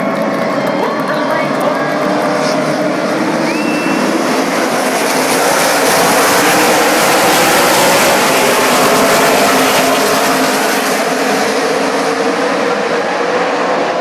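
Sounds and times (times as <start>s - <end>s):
race trucks passing at full throttle: 0.0s - 14.0s.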